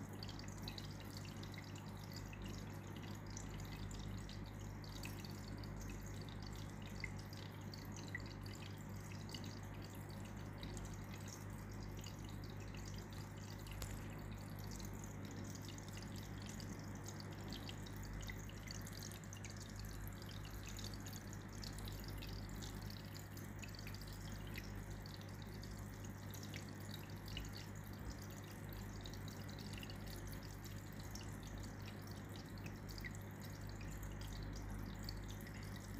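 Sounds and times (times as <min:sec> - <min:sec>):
filter water trickling: 0:00.0 - 0:35.9
low steady hum: 0:00.0 - 0:35.9.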